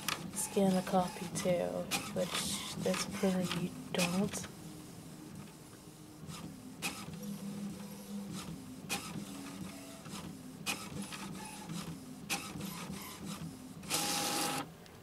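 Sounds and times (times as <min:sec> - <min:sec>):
printer motor hum: 0:00.0 - 0:14.7.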